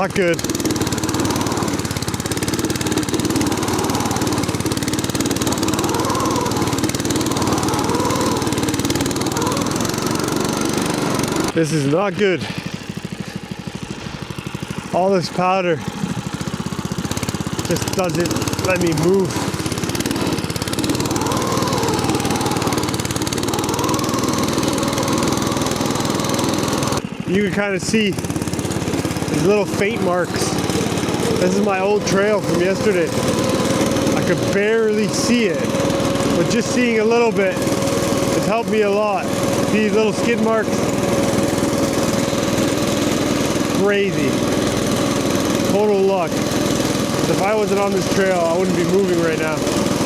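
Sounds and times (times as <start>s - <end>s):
small engine revving: 0.0s - 50.0s.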